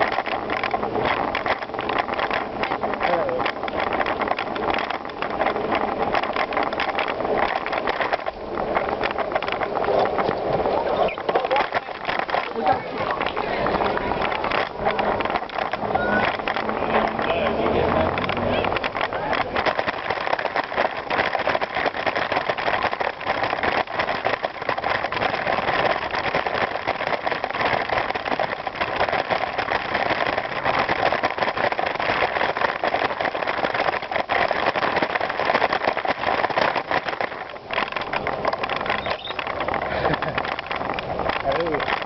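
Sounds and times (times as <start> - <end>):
bicycle tyres crunching on gravel: 0.0 - 42.0.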